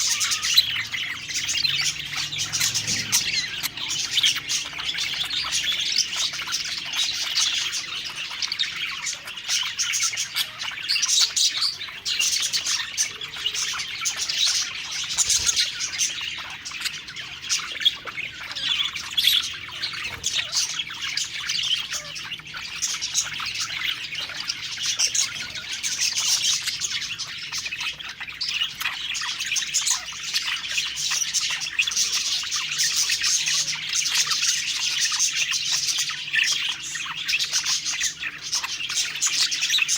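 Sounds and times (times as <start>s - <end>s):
bird squawks: 0.0s - 39.9s
budgerigars chirping and warbling: 0.0s - 39.9s.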